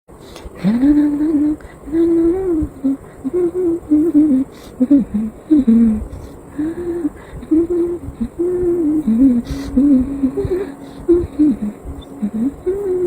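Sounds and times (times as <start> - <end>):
woman humming a tune: 0.3 - 13.0.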